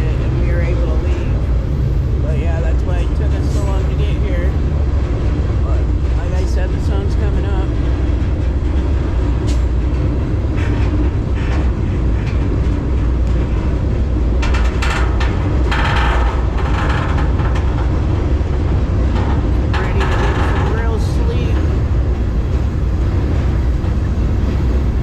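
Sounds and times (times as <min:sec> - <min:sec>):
freight train rumbling: 0:00.0 - 0:25.0
train rattles and screeches: 0:00.0 - 0:25.0.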